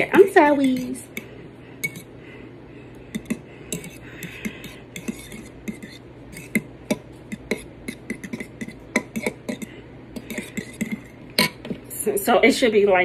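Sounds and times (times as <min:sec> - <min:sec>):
utensil scraping a mixing bowl: 0:00.0 - 0:02.1, 0:03.0 - 0:12.0.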